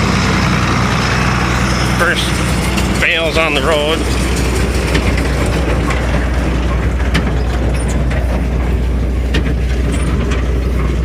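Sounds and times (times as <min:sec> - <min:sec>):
tractor engine running: 0:00.0 - 0:11.0
baler clicks and rattles: 0:01.0 - 0:11.0.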